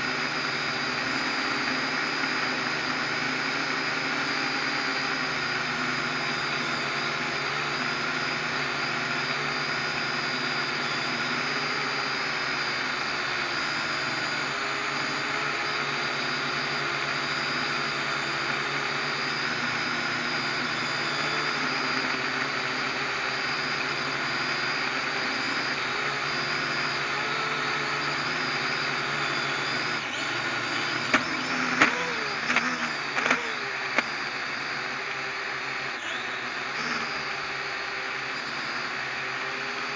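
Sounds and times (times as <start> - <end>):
drone propellers whirring: 0.0 - 39.9.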